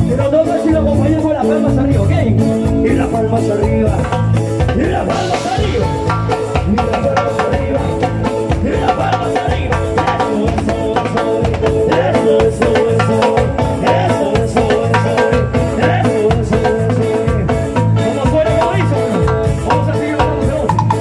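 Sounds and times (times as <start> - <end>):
latin dance band playing: 0.0 - 21.0
pulsing bass line: 0.0 - 21.0
timbales and cymbals beat: 1.0 - 21.0.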